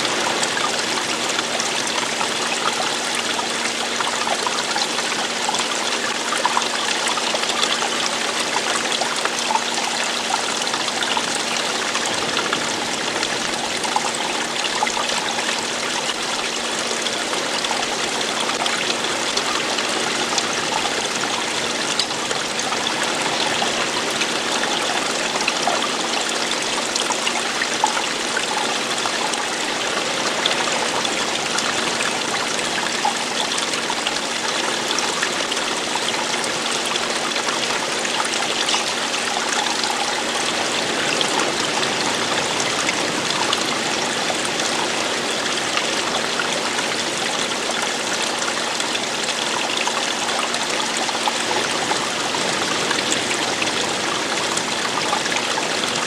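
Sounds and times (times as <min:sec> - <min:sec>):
running water splashing: 0:00.0 - 0:56.0.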